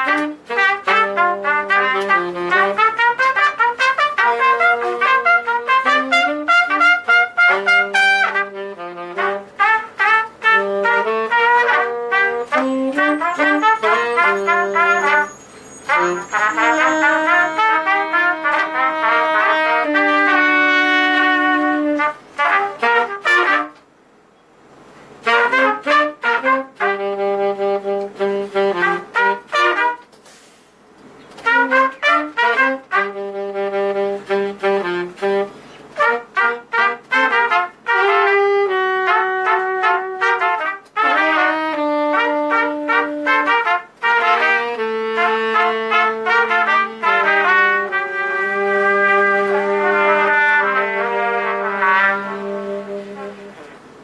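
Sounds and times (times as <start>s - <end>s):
saxophone and trumpets playing a tune: 0.0s - 23.9s, 25.0s - 54.0s.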